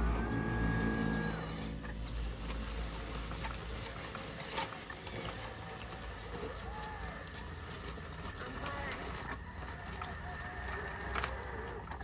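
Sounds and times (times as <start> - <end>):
model engine hum with whine: 0.0 - 12.0.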